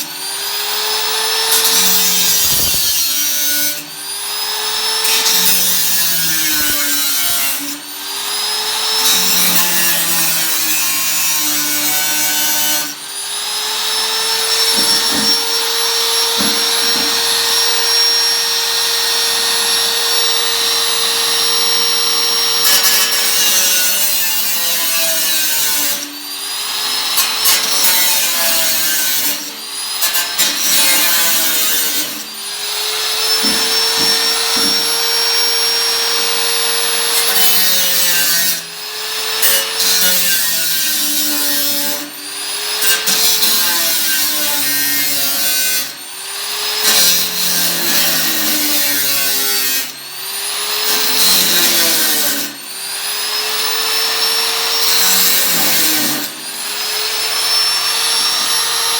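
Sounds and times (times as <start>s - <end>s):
power tool cutting sheet steel: 0.0s - 58.9s.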